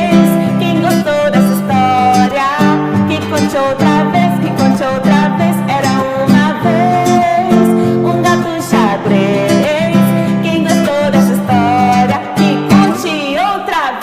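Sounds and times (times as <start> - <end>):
strummed acoustic guitar: 0.0 - 13.2.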